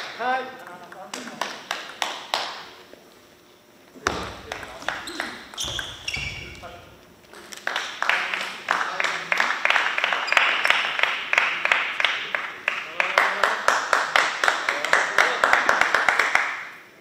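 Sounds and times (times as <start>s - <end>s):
rhythmic clapping: 0.0s - 2.8s, 4.1s - 5.6s, 7.4s - 16.8s.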